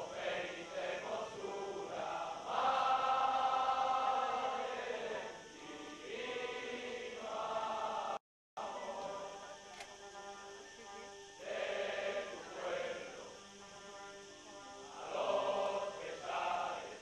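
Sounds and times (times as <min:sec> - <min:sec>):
male choir singing a hymn: 0:00.0 - 0:17.0.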